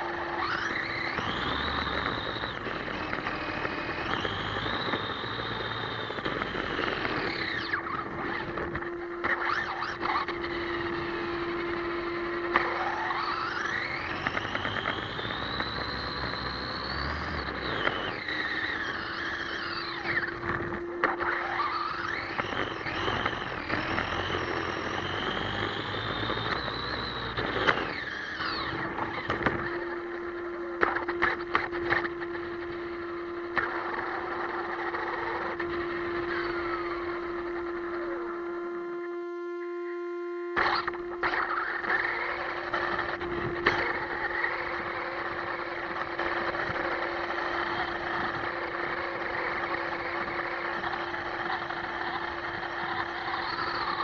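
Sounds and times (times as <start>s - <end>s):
electric motor whining: 0.0s - 54.0s.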